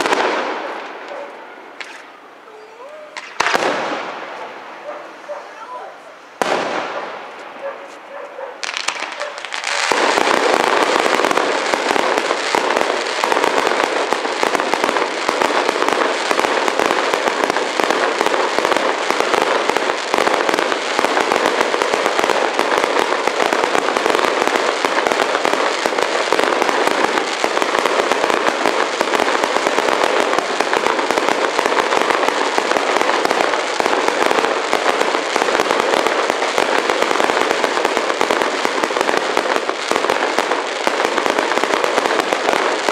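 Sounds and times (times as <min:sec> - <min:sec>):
fireworks crackling and popping: 0:00.0 - 0:42.9.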